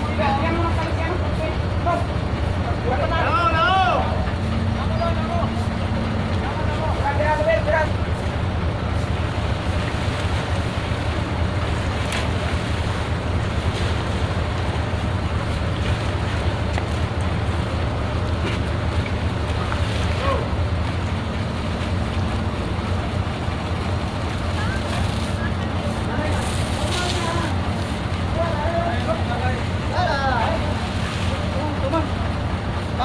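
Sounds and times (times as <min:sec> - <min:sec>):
boat engine droning: 0:00.0 - 0:33.0
water noise: 0:00.0 - 0:33.0
wind: 0:00.0 - 0:33.0.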